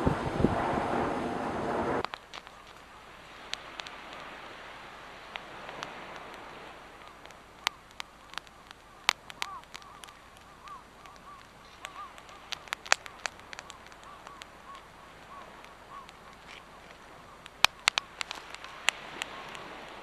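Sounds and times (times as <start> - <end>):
campfire crackling and popping: 1.4 - 20.0
faint chirping calls: 2.0 - 20.0.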